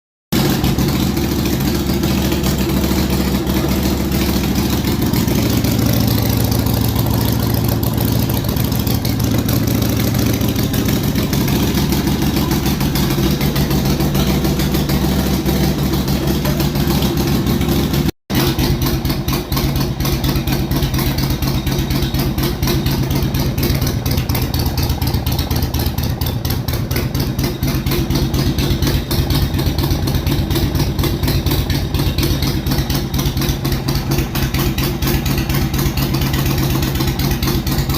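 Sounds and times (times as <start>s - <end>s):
motorcycle engine idling fast: 0.4s - 37.9s.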